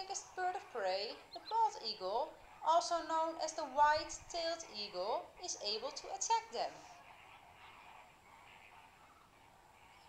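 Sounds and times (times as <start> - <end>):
distant flamingos calling: 0.0 - 10.0.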